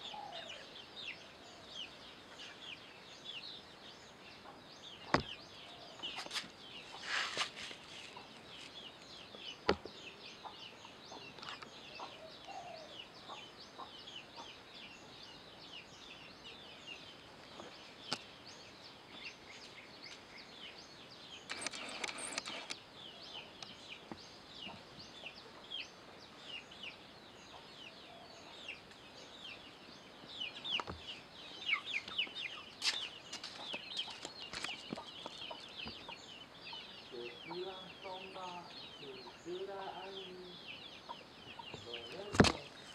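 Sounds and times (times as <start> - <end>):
birds chirping: 0.0 - 42.9
rustle: 0.0 - 42.9.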